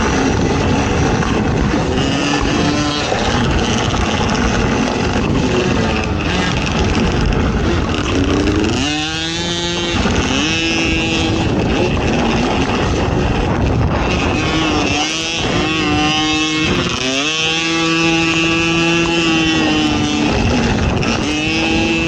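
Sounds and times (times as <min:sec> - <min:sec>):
atv engine revving: 0:00.0 - 0:22.0
wind rushing over microphone: 0:00.0 - 0:22.0.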